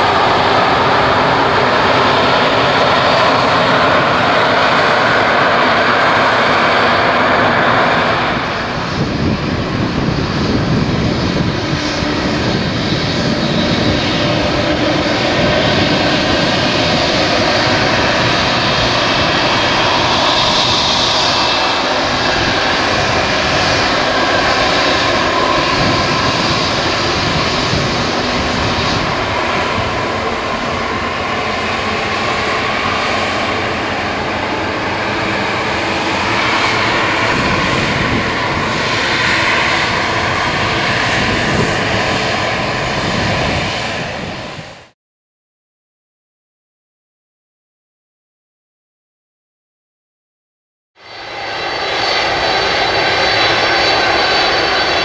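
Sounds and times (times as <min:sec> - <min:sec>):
jet engines whining at taxi: 0:00.0 - 0:45.0, 0:51.0 - 0:55.0.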